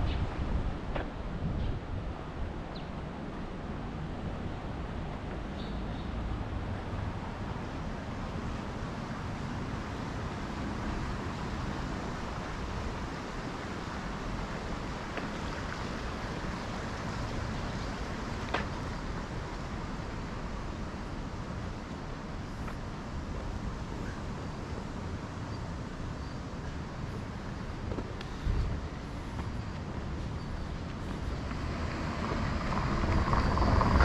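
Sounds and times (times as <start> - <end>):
distant city traffic: 0.0 - 34.0.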